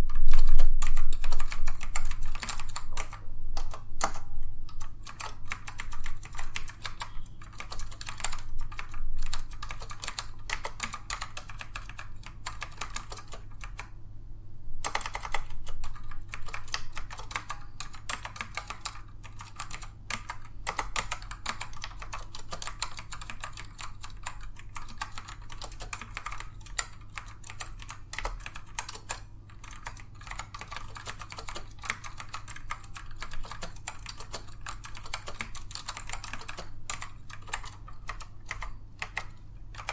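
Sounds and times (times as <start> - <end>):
mechanical keyboard typing: 0.0 - 13.9, 14.8 - 39.9.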